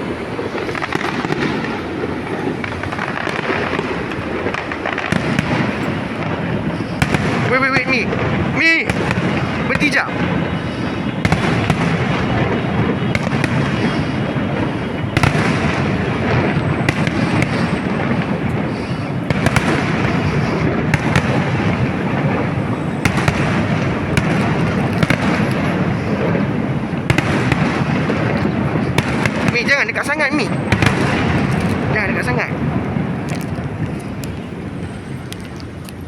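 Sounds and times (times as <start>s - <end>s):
fireworks crackling and banging: 0.0s - 36.0s.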